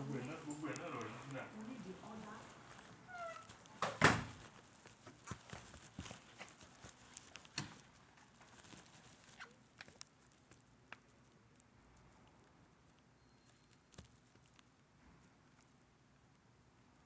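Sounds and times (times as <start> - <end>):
faint clicks and taps: 0.2 - 16.4.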